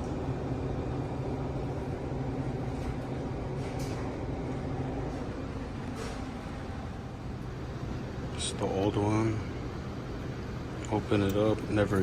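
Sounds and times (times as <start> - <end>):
ice machine humming: 0.0 - 12.0.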